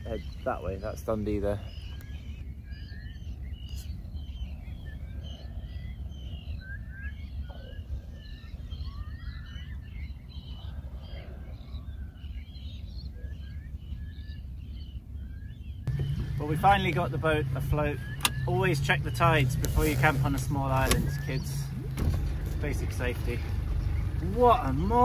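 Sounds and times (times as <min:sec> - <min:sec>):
birds chirping and whistling: 0:00.0 - 0:25.0
low steady rumble: 0:00.0 - 0:25.0.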